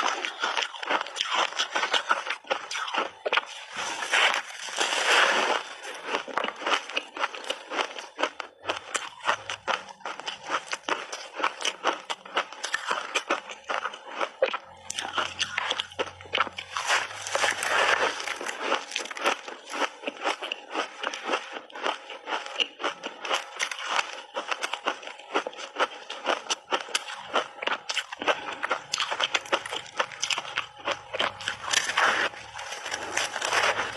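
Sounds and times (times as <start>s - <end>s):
ice being chewed: 0.0s - 33.9s.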